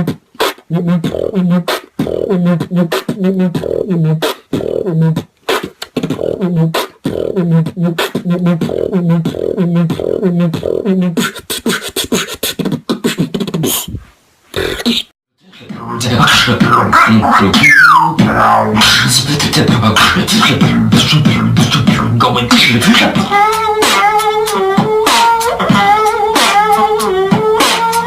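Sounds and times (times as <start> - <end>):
beatboxing: 0.0 - 28.0.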